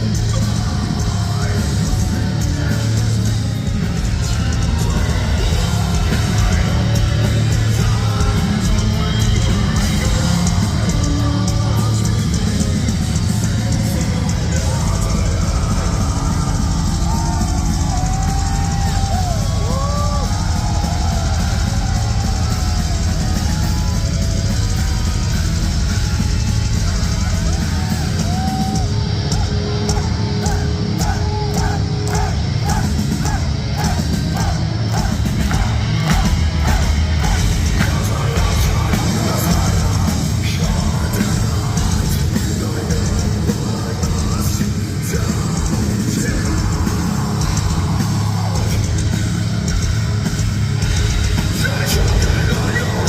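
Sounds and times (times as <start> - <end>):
metal band playing live: 0.0 - 53.0
yelled vocals: 0.0 - 53.0.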